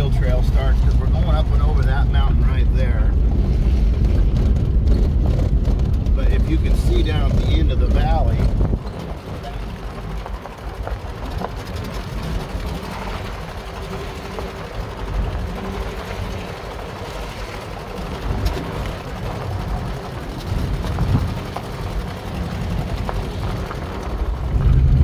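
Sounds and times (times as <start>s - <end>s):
gravel ticks: 0.0s - 25.0s
truck engine running: 0.0s - 25.0s
tyre and road noise: 0.0s - 25.0s.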